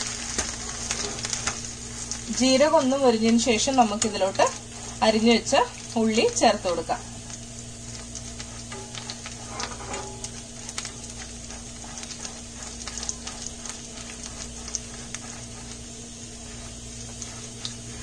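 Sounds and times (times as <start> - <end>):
seeds sizzling in oil: 0.0 - 18.0
spatula stirring in pan: 0.0 - 18.0.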